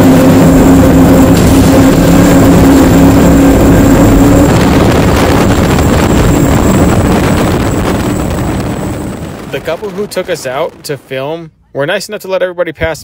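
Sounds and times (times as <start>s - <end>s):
boat engines running at speed: 0.0s - 11.2s
wind rushing over microphone: 0.0s - 11.4s.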